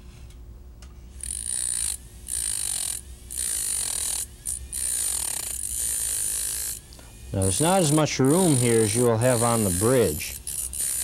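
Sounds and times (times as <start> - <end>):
dental disc grinding with high whine: 1.2 - 11.0.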